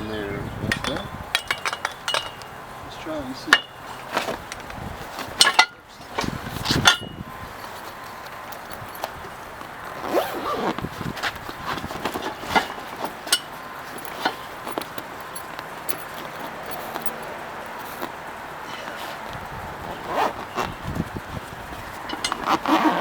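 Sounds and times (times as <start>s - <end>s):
fabric rustling and scraping: 3.9s - 23.0s.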